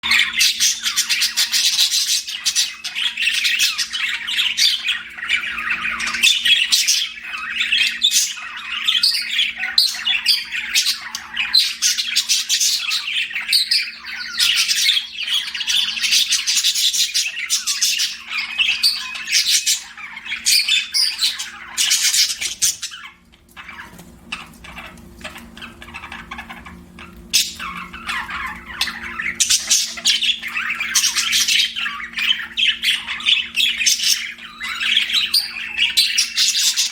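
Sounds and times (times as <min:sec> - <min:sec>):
budgerigars chirping and chattering: 0:00.0 - 0:36.9.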